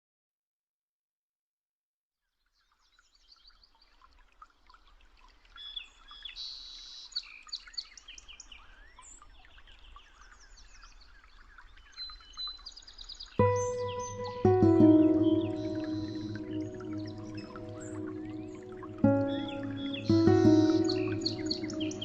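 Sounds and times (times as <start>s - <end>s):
small birds chirping: 2.5s - 22.0s.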